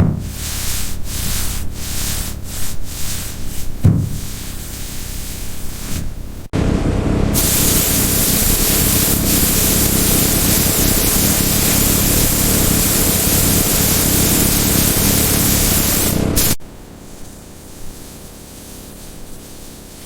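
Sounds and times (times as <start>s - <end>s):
loud steady hiss: 0.0s - 20.0s.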